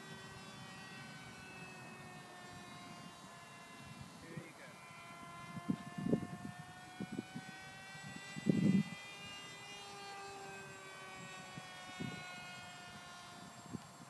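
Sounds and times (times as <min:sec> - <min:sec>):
model airplane motor drone: 0:00.0 - 0:14.0.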